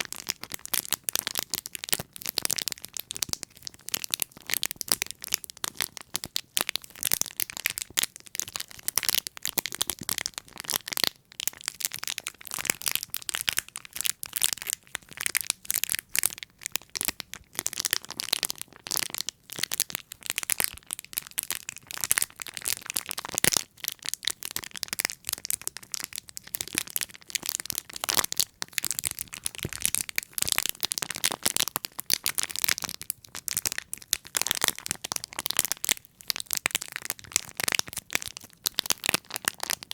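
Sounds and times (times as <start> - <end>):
close crackling and crinkling: 0.0 - 39.9.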